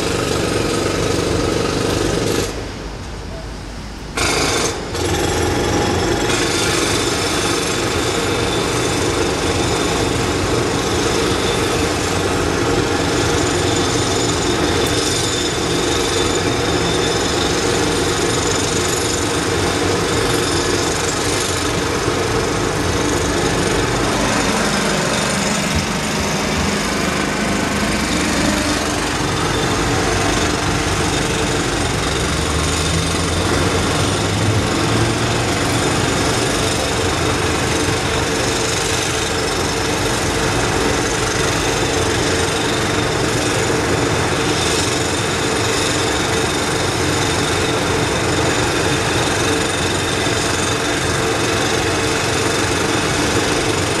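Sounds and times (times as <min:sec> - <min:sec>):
jackhammers pounding concrete: 0:00.0 - 0:02.8, 0:04.2 - 0:54.0.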